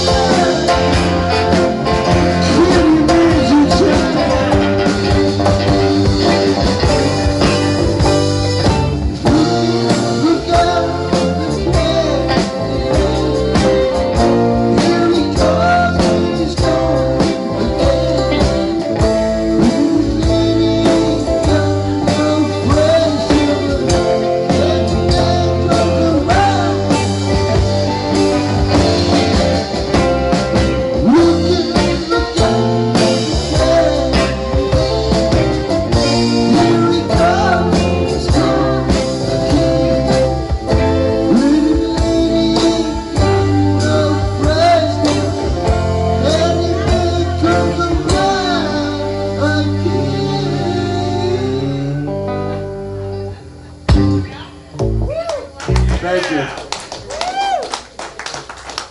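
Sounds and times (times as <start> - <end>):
drum kit: 0.0 - 51.8, 53.8 - 56.1
person singing: 0.0 - 53.4
keyboard: 0.0 - 56.6
electric bass: 0.0 - 57.2
electric guitars: 0.0 - 58.9.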